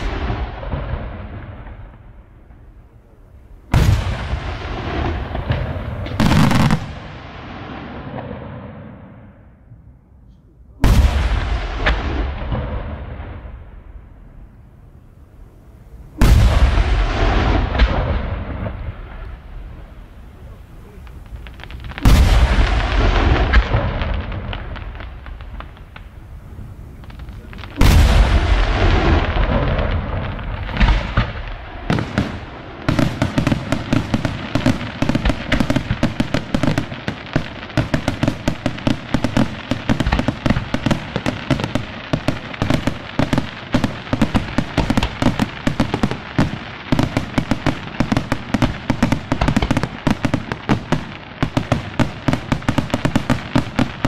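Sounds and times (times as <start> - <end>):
firework barrage bangs: 0.0 - 2.3, 3.7 - 9.4, 10.8 - 14.4, 16.1 - 54.0
firework shells booming: 0.0 - 2.8, 3.6 - 9.5, 10.8 - 14.5, 16.1 - 54.0.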